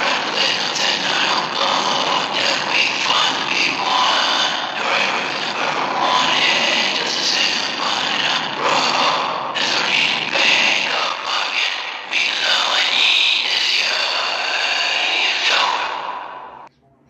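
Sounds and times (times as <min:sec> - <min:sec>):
harsh distorted voice: 0:00.0 - 0:16.7.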